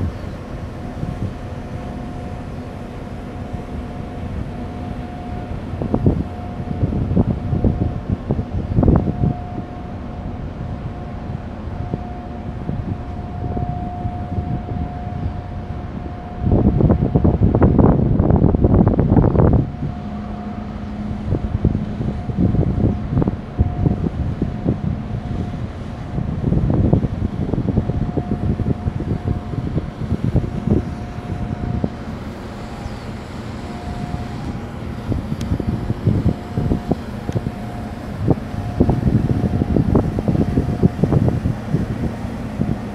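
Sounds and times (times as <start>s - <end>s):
faint steady whine: 0.0s - 42.9s
large ship rumbling: 0.0s - 42.9s
wind buffeting microphone: 0.0s - 42.9s.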